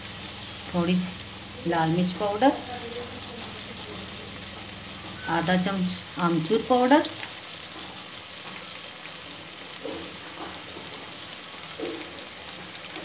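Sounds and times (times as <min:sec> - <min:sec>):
masala frying in oil: 0:00.0 - 0:13.0.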